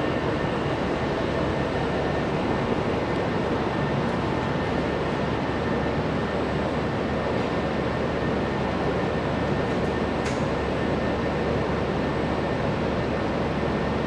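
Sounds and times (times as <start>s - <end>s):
faint steady whines: 0.0s - 14.0s.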